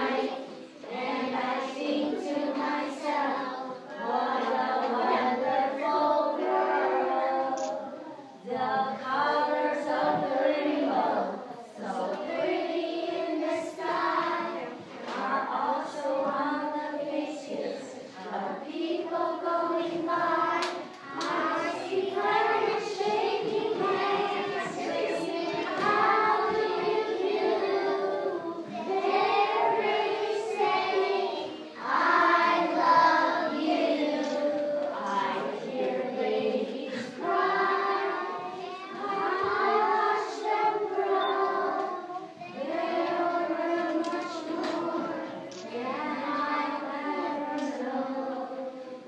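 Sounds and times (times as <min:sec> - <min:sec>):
children singing in unison: 0:00.0 - 0:49.0.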